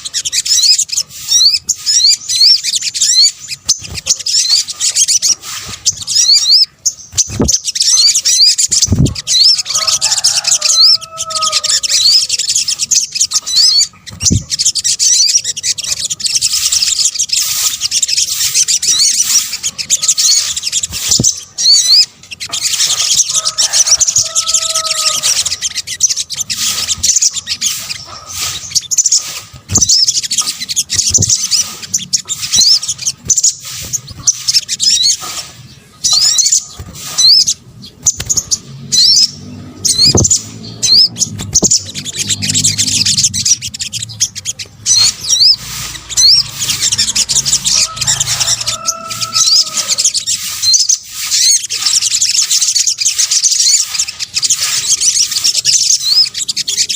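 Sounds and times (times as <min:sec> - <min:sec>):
bird high-pitched chirps: 0:00.0 - 0:56.9.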